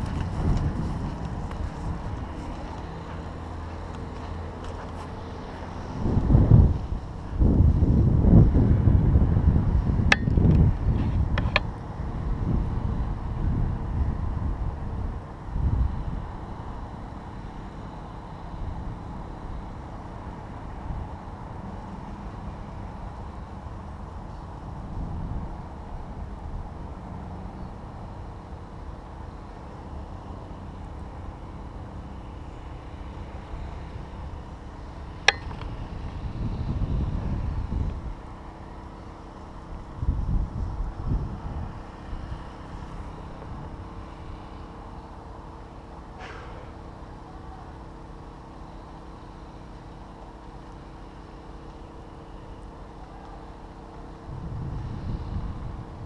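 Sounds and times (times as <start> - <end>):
faint steady hum: 0.0 - 56.0
low outdoor rumble: 0.0 - 56.0.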